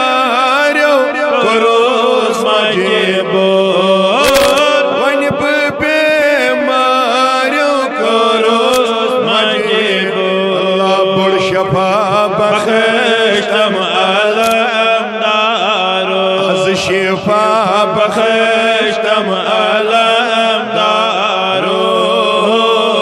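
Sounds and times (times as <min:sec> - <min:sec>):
devotional chant with wavering notes: 0:00.0 - 0:23.0.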